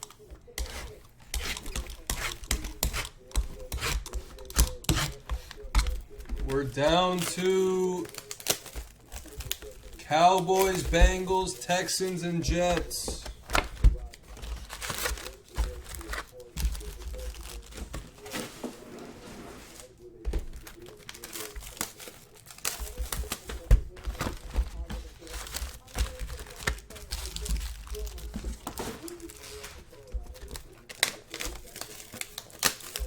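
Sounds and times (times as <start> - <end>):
plastic wrappers crinkling and tearing: 0.0 - 33.0.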